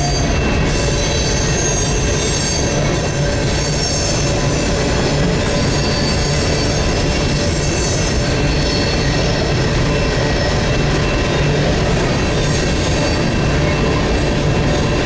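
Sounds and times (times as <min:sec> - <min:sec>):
high wheel squeals: 0:00.0 - 0:14.8
steel wheels rumbling on rail: 0:00.0 - 0:15.0.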